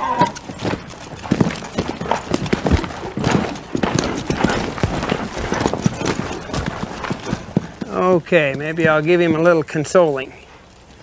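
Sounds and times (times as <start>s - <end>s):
horse hoofbeats: 0.0s - 10.8s.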